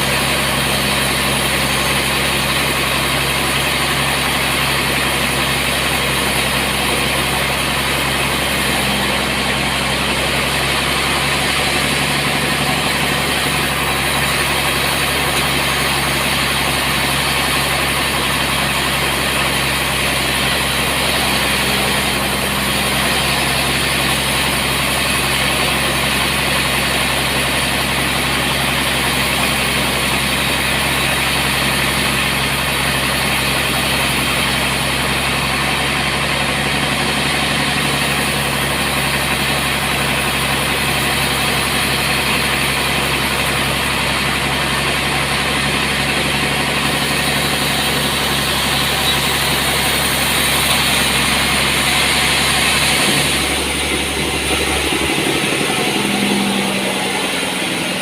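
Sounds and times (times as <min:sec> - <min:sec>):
sawmill machinery hum: 0:00.0 - 0:58.0.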